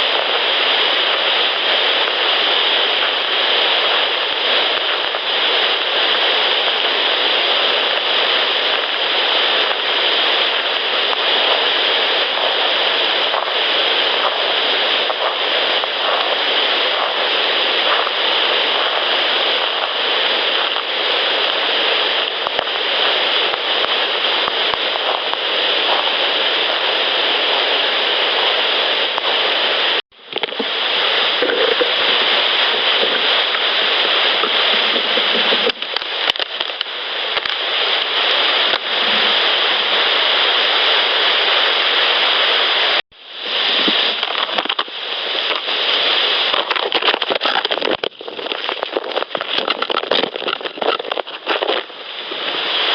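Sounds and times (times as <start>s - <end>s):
loud steady hiss: 0.0s - 52.9s.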